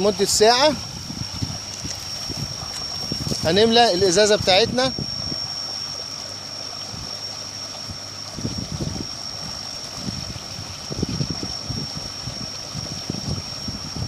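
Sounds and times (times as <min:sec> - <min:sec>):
steady high-pitched whine: 0:00.0 - 0:14.0
water gushing from pipe: 0:00.0 - 0:14.0.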